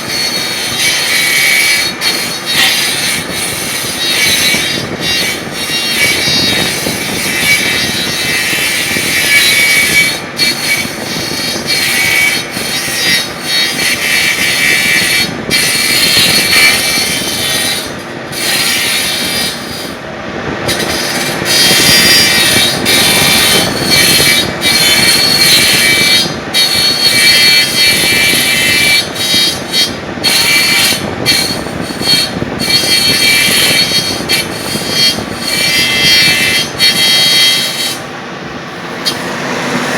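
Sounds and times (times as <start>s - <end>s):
wood lathe running: 0.0s - 20.0s, 20.7s - 39.9s.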